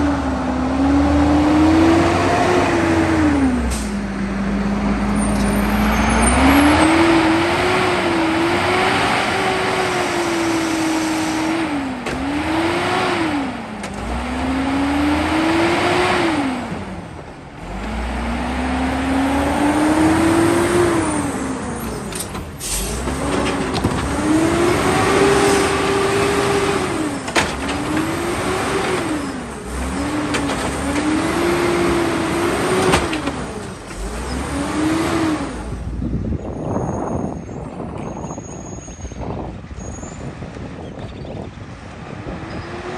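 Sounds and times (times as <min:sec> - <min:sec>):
garbage truck engine revving: 0:00.0 - 0:36.4.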